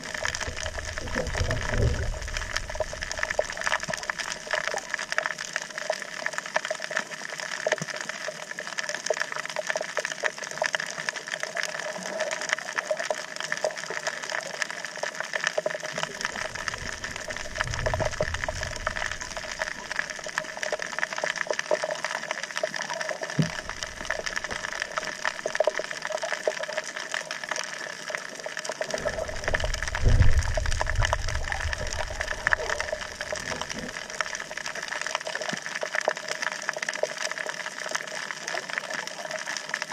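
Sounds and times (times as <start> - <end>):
low rumble of moving water: 0.0 - 39.9
underwater hiss with crackling clicks: 0.0 - 39.9.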